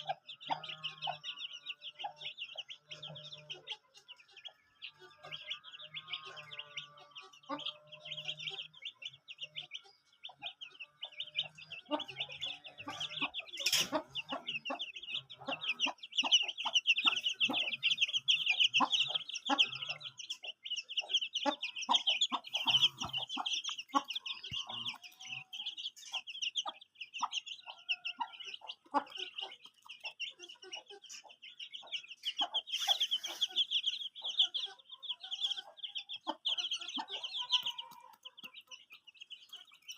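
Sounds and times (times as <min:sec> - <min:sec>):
chickens clucking: 0:00.0 - 0:39.9
chickens peeping: 0:00.0 - 0:39.9.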